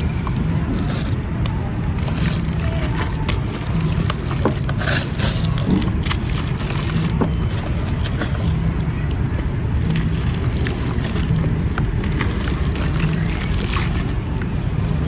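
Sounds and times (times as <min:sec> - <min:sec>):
powder clumps crunching by hand: 0:00.0 - 0:15.0
steady low rumble: 0:00.0 - 0:15.0.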